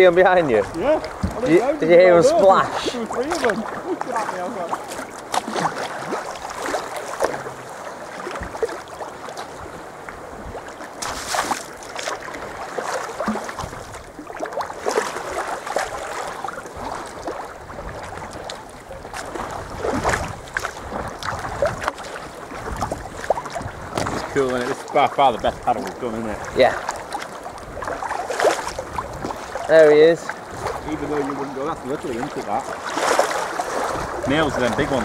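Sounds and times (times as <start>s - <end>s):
paddle stroke splashes: 0.0s - 35.0s
water lapping against kayak hull: 0.0s - 35.0s.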